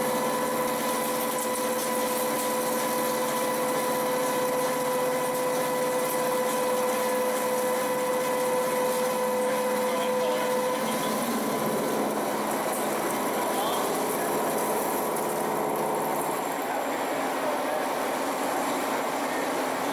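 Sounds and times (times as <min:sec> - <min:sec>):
high steady whine: 0:00.0 - 0:19.9
milling cutter machining metal: 0:00.0 - 0:19.9.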